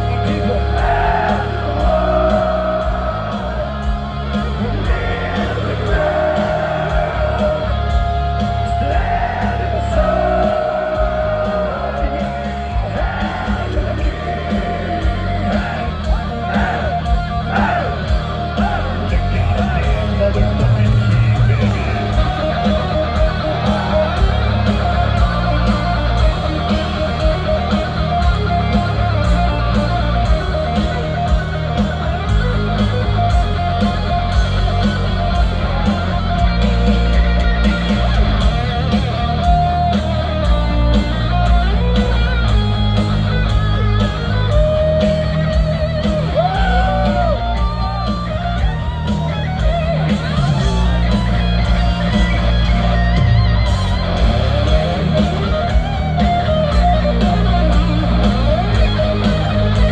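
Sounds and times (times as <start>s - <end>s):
bass guitar: 0.0s - 59.9s
distorted electric guitars: 0.0s - 59.9s.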